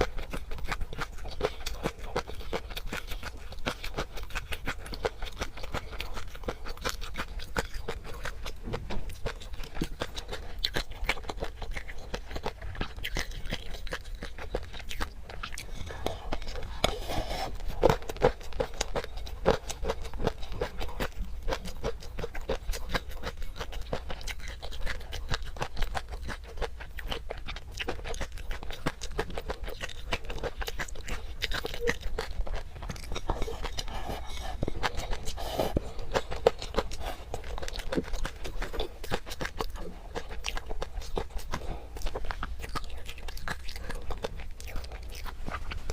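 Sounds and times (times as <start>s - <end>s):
chewing and crunching: 0.0s - 45.9s.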